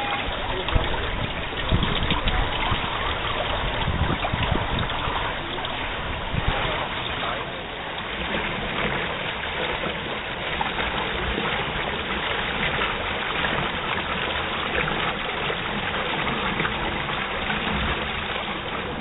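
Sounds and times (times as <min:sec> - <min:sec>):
pool water trickling into gutter: 0:00.0 - 0:19.0.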